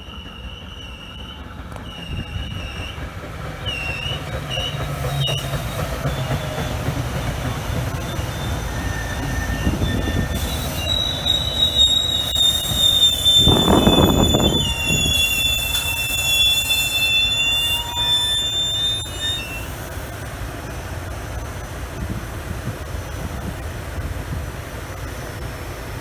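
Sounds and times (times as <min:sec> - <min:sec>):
train wheels squealing on rails: 0:00.0 - 0:23.8
train rumble: 0:00.0 - 0:26.0.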